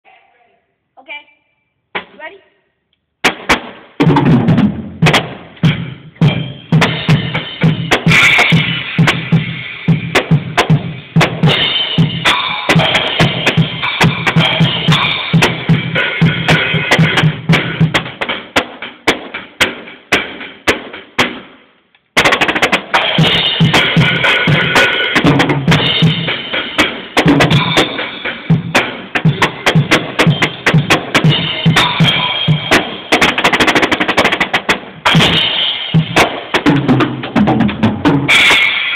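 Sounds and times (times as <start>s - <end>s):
drum kit played hard: 3.2s - 38.9s.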